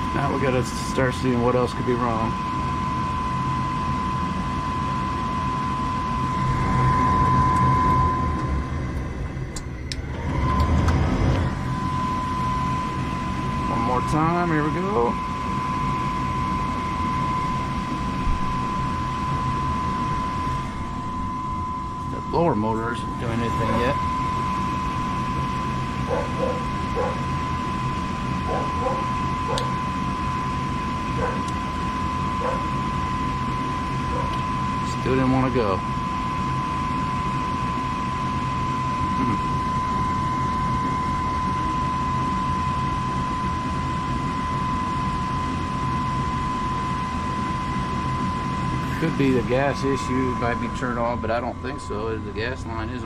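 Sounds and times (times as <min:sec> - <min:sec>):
furnace inducer motor humming: 0:00.0 - 0:53.0
thin high whine: 0:00.0 - 0:53.0.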